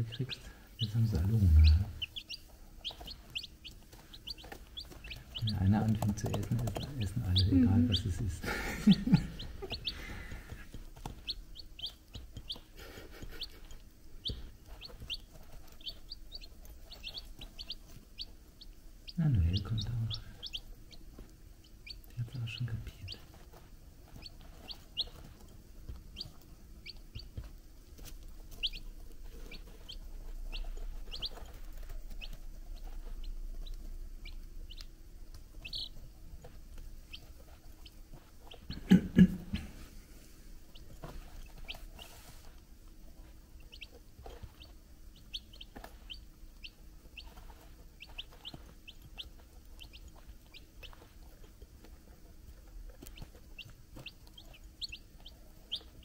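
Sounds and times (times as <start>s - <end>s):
chicks pecking ceramic bowls: 0.0s - 56.0s
chicks peeping: 0.0s - 56.0s.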